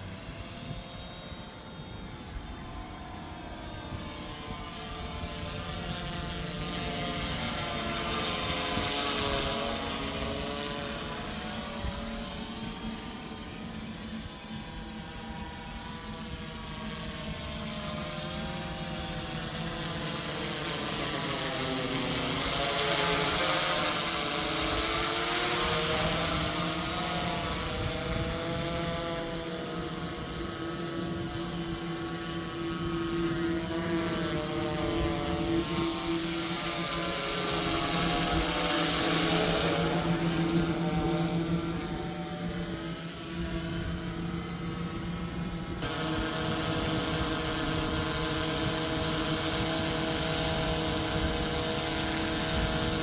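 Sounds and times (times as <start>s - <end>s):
drone propellers buzzing: 0.0s - 53.0s.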